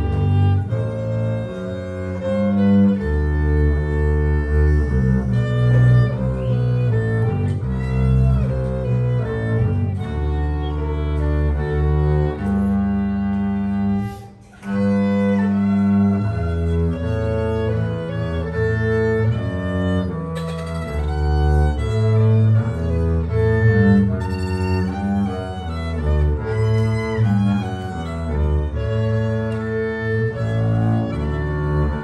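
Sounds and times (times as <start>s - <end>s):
bowed double bass: 0.0s - 32.0s
violin: 0.0s - 32.0s.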